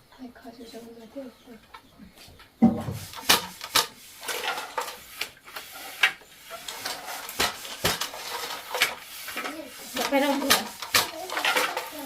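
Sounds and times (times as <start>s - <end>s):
wood rubbing and scraping: 2.1s - 12.0s.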